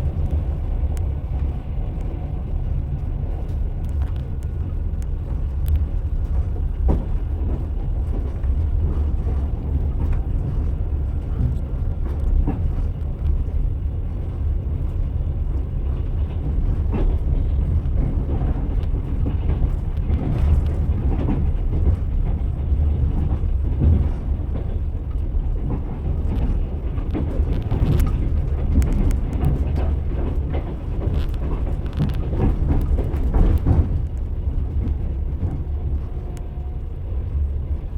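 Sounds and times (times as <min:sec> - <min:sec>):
train wheels rumbling on rails: 0:00.0 - 0:37.9
wheels knocking on rail joints: 0:02.9 - 0:36.8.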